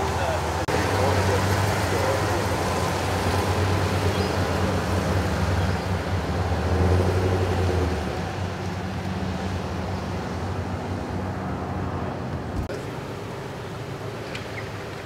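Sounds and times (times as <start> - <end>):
ambulance engine humming: 0.0 - 15.0.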